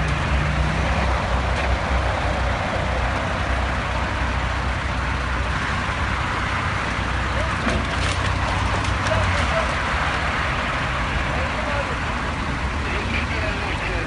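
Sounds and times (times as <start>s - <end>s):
road traffic noise: 0.0s - 14.0s
vehicle engine rumbling: 0.0s - 14.0s.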